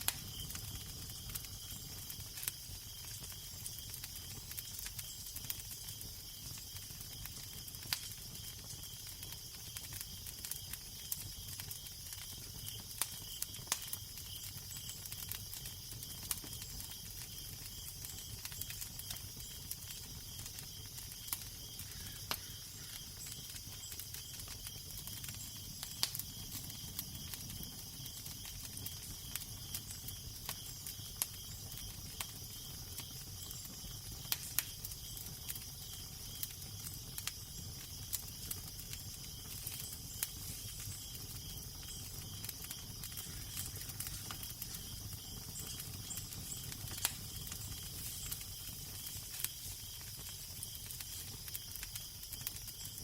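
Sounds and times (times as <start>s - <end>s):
constant hiss: 0.0s - 53.0s
fire crackling and popping: 0.0s - 53.0s.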